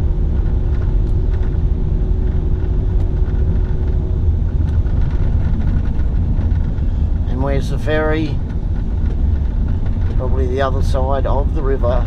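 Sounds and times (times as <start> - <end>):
car engine rumble: 0.0 - 12.0
tyre road noise: 0.0 - 12.0.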